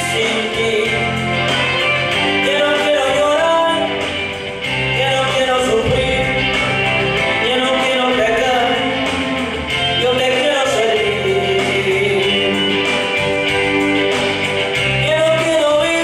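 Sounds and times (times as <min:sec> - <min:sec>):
man singing into a microphone: 0:00.0 - 0:12.9, 0:15.0 - 0:16.0
bass line: 0:00.0 - 0:16.0
guitar: 0:00.0 - 0:16.0.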